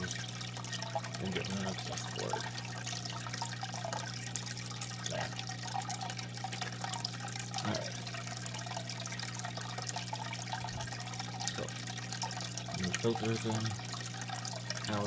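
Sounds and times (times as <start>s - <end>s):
low filter hum: 0.0s - 15.0s
water trickling and splashing: 0.0s - 15.0s.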